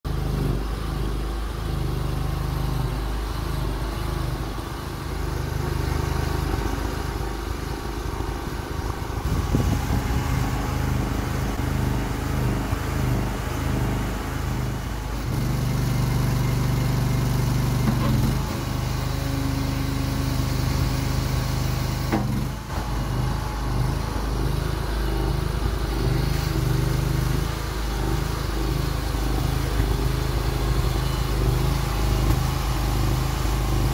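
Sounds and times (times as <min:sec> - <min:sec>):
excavator engine and hydraulic pump: 0:00.1 - 0:33.9.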